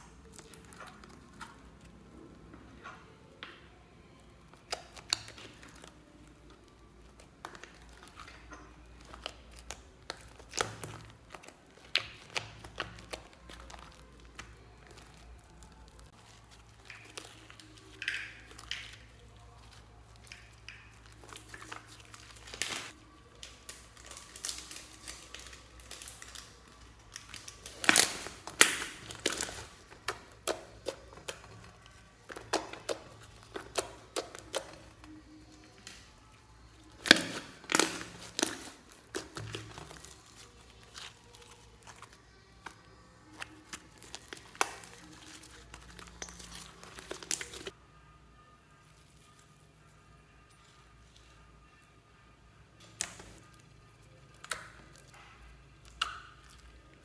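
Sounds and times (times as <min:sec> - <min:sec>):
slime squished by hand: 0:04.5 - 0:47.8, 0:54.3 - 0:57.0.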